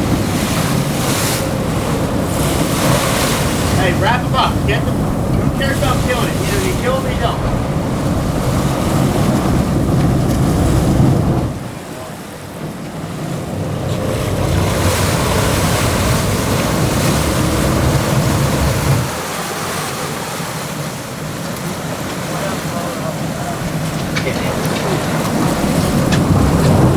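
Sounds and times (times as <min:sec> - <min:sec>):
heavy low rumble: 0:00.0 - 0:19.2, 0:23.4 - 0:26.9
water rushing past boat: 0:00.0 - 0:26.9
wind buffeting microphone: 0:00.0 - 0:26.9.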